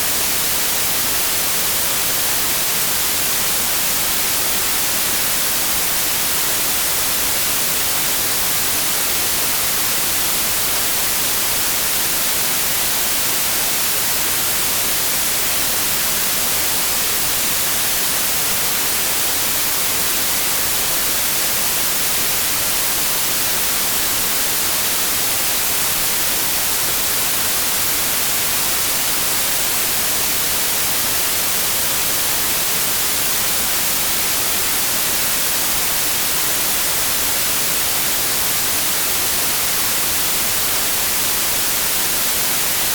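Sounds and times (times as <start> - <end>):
white noise hiss: 0.0 - 42.9.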